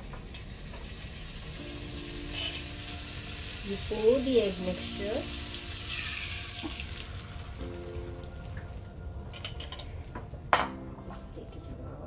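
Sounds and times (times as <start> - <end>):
egg sizzling in frying pan: 0.0 - 10.0.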